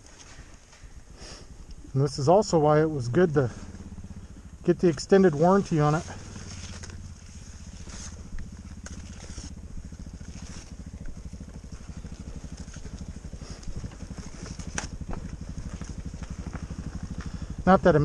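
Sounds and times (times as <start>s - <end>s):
motorcycle engine idling: 0.1s - 18.0s.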